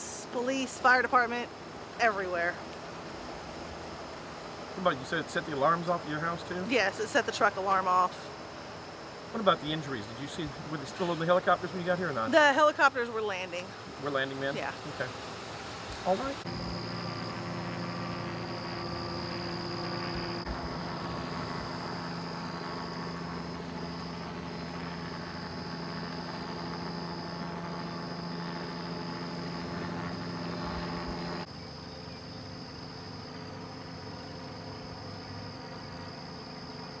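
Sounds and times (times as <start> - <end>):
insects trilling: 0.0 - 37.0
low mechanical hum: 0.0 - 37.0.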